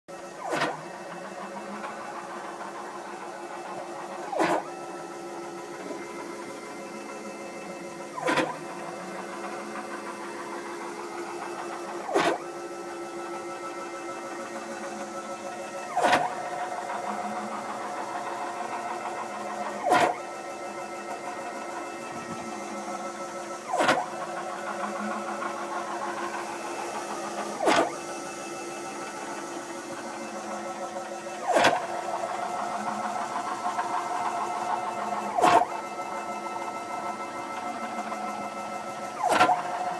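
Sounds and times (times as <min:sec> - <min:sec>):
stepper motor whine: 0:00.2 - 0:39.9.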